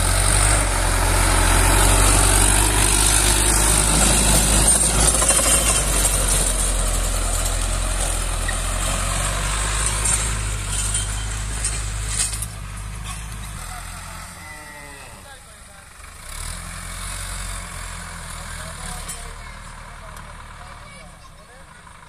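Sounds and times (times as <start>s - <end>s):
rotavator grinding soil: 0.0s - 19.4s
tractor diesel engine drone: 0.0s - 22.0s.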